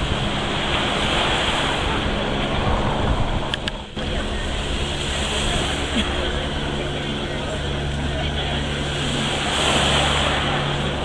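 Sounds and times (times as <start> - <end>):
motorboat and jet-ski engines humming: 0.0 - 11.0
wind buffeting microphone: 0.0 - 11.0.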